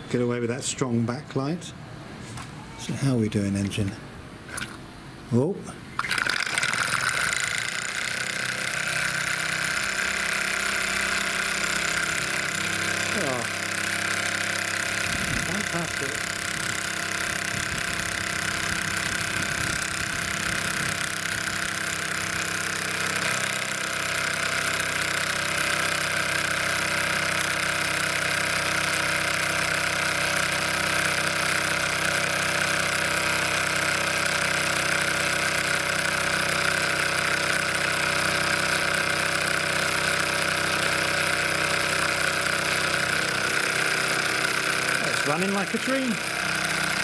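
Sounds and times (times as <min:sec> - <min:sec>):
steam engine running: 0:06.0 - 0:47.0.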